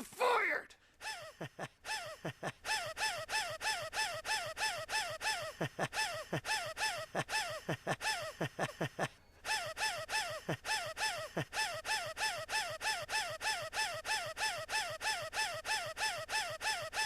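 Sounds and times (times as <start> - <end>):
squeaky cartoon wheezing gasp: 1.0 - 17.0.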